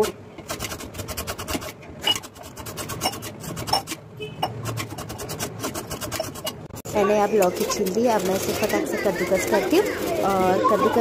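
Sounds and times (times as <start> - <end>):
blade scraping gourd skin: 0.0 - 11.0.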